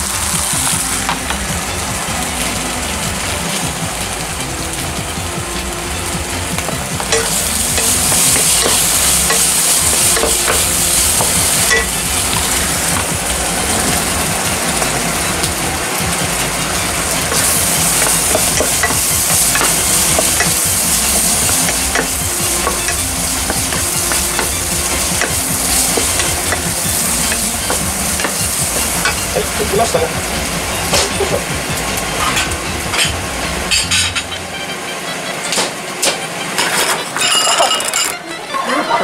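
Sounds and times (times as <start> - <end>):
food sizzling in a frying pan: 0.0 - 34.3.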